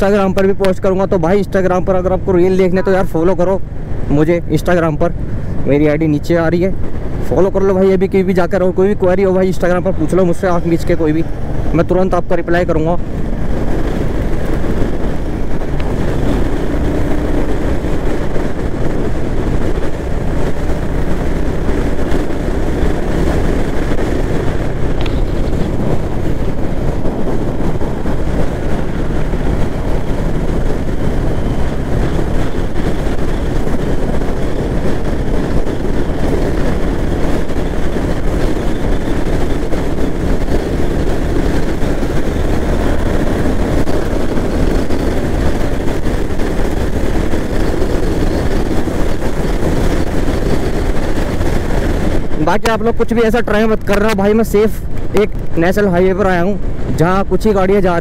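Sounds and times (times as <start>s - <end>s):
wind rushing on microphone: 0.0s - 58.0s
motorcycle engine running: 8.2s - 56.9s.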